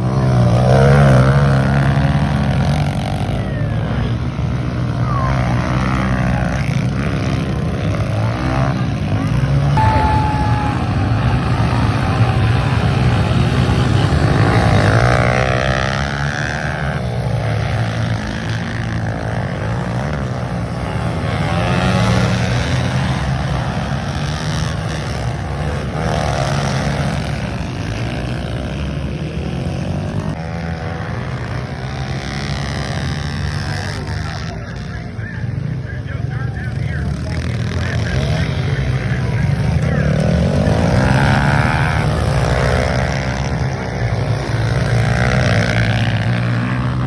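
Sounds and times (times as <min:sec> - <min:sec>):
pit bike engines revving: 0:00.0 - 0:47.0.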